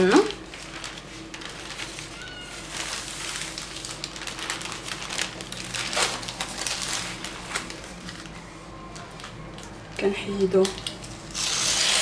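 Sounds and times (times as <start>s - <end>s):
baking paper crinkling: 0.0s - 12.0s
paper crackles: 0.1s - 12.0s.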